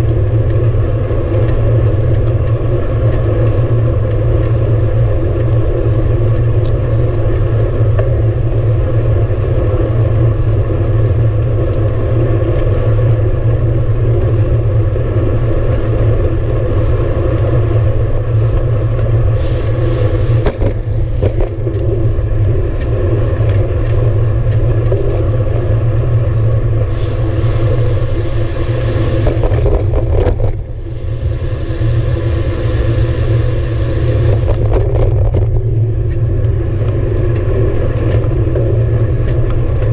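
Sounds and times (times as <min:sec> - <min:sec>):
bike tyre noise on pavement: 0:00.0 - 0:39.9
wind rumble: 0:00.0 - 0:39.9.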